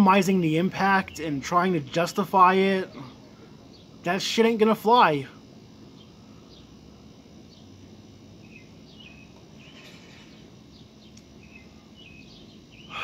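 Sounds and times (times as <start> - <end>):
low background hum: 0.0 - 13.0
small birds chirping: 0.1 - 13.0.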